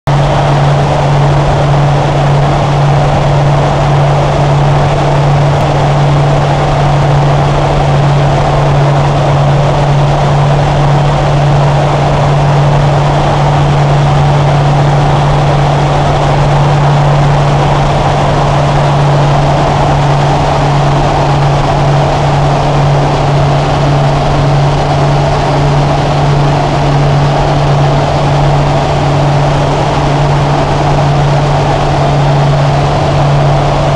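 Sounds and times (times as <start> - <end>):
propeller aircraft engine drone: 0.1 - 33.9.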